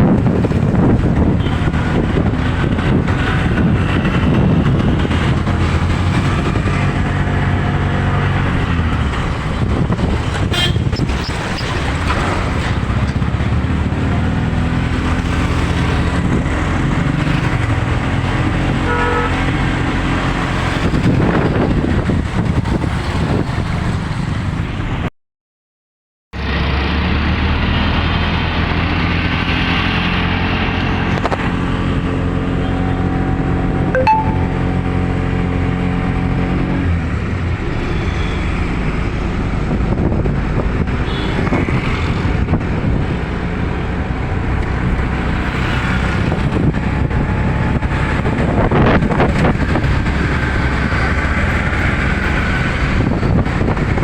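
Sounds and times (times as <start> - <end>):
traffic hum: 0.0 - 24.7, 29.0 - 54.0.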